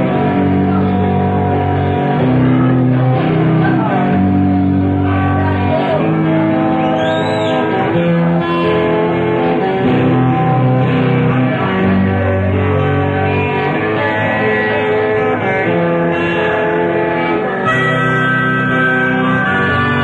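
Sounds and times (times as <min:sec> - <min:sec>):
electric guitar held notes: 0:00.0 - 0:20.0
live rock band playing: 0:00.0 - 0:20.0
steady bass line: 0:00.0 - 0:20.0.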